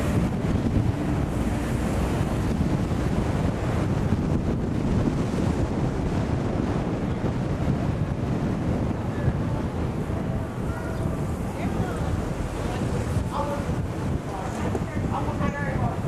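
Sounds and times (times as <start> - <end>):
car road and wind noise: 0.0 - 16.0
wind buffeting microphone: 0.0 - 16.0.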